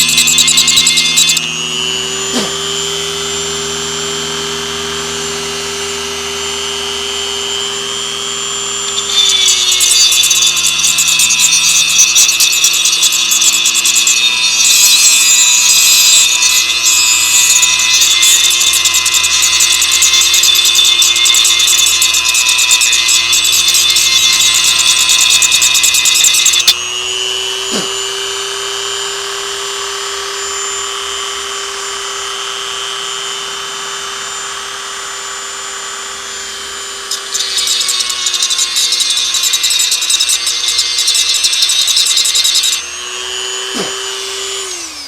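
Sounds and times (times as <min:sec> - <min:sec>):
angle grinder grinding metal: 0:00.0 - 0:45.0.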